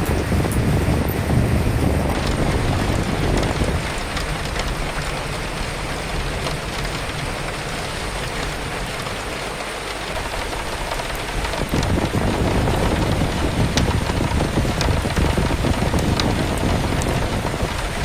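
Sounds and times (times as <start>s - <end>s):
low rumble of wind: 0.0s - 18.0s
rain pattering: 0.0s - 18.0s.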